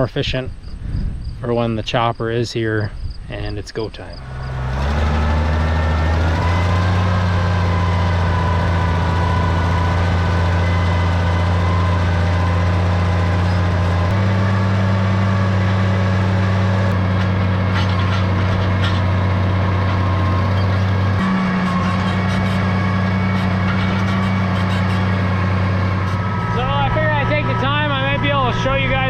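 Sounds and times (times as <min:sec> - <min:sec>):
tractor engine running: 0:04.0 - 0:29.0.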